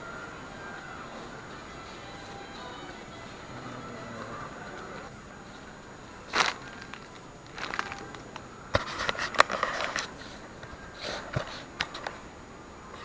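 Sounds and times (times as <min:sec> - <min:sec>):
crinkling and rustling: 0:00.0 - 0:13.0.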